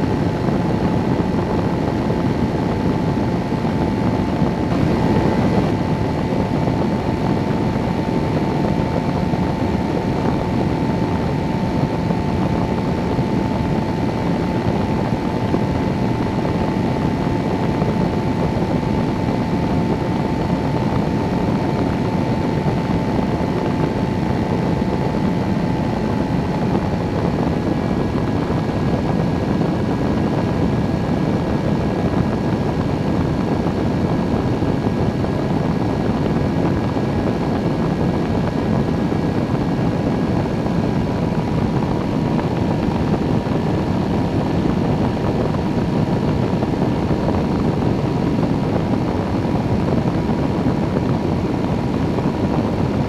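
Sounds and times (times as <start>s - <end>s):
engine and propeller drone: 0.0s - 53.0s
rushing air: 0.0s - 53.0s
thin steady whine: 0.0s - 53.0s.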